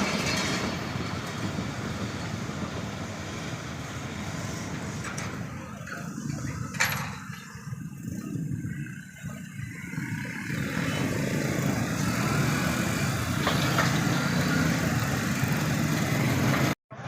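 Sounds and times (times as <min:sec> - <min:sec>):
vehicle rumble and rush: 0:00.0 - 0:17.0.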